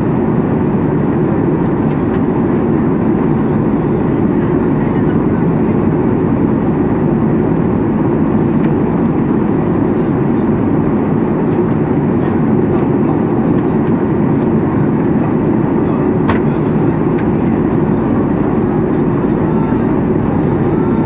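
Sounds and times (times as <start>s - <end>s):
airplane cabin noise: 0.0s - 21.0s.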